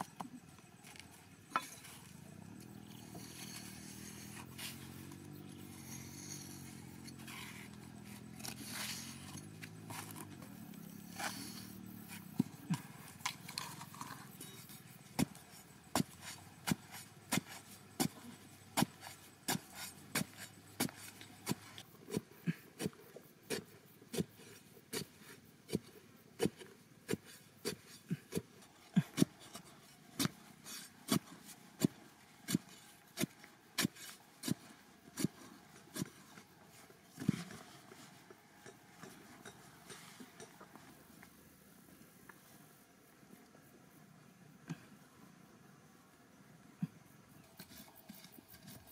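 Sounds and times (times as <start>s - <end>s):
metal bar striking sandy soil: 1.5s - 40.8s.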